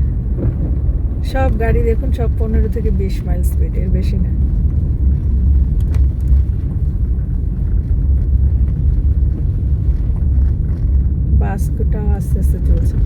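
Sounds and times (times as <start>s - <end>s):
car driving on snowy road: 0.0s - 13.0s.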